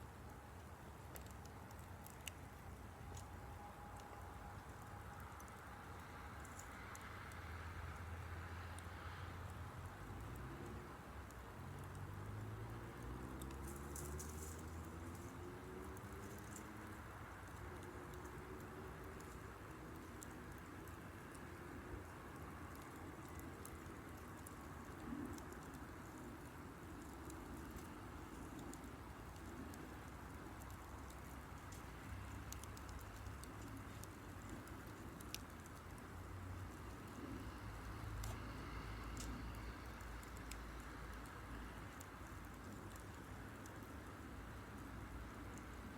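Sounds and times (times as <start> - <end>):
campfire crackling: 0.0 - 45.9
fire popping: 0.0 - 45.9
low steady hiss: 0.0 - 45.9.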